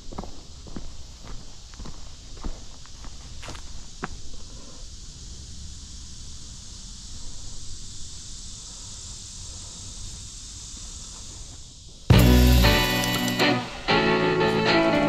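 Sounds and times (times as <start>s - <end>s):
insect chorus hissing: 0.0s - 15.0s.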